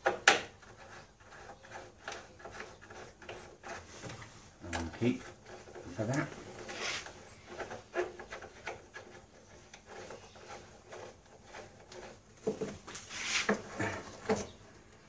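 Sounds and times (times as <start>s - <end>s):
wooden and metal parts knocking: 0.0s - 12.9s.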